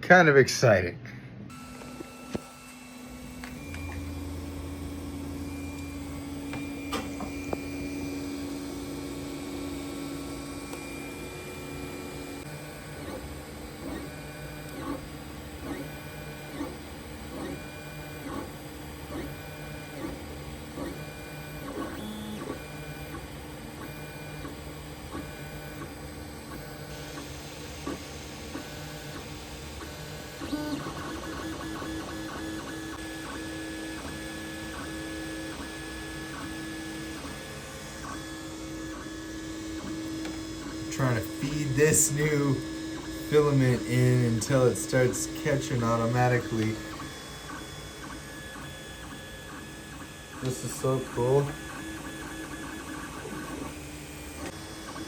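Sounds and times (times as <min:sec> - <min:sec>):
printer motor whine: 0:01.5 - 0:55.0
stepper motor moves: 0:01.5 - 0:55.0.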